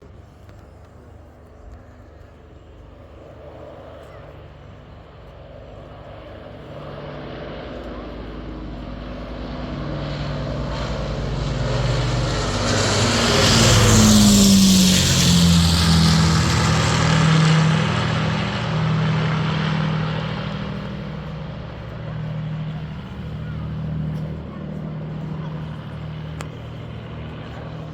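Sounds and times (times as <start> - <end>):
propeller plane engines droning: 0.0 - 27.9.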